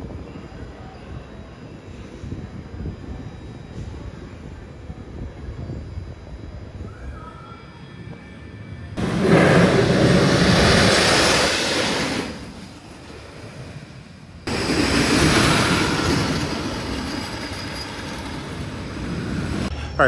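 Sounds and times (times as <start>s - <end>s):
roller coaster rumbling on track: 0.0s - 20.0s.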